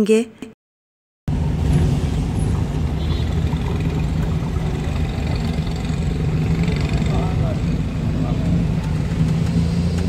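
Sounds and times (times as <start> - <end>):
car engine idling: 1.3 - 10.0.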